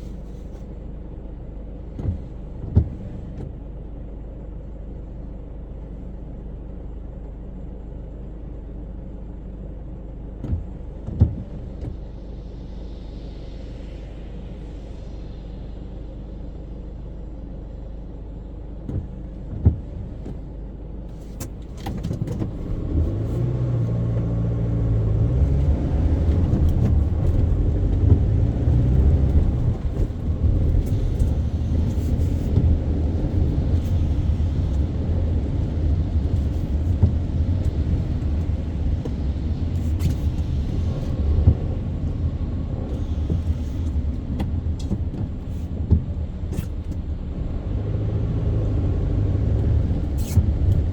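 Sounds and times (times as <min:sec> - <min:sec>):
car engine and road rumble: 0:00.0 - 0:50.9.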